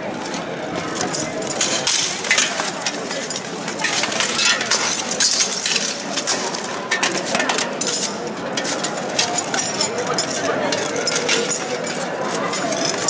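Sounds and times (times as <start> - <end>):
armour and weapons clanking: 0.0 - 13.0.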